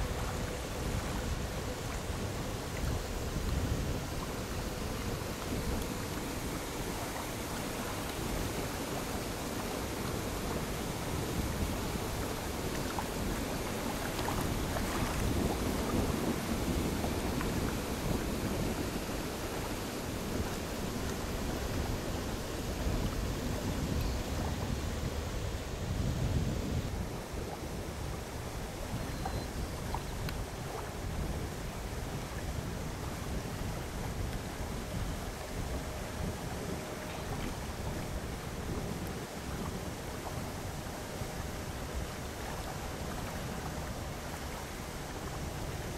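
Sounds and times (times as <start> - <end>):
choppy water rushing: 0.0 - 45.9
wind: 0.0 - 45.9.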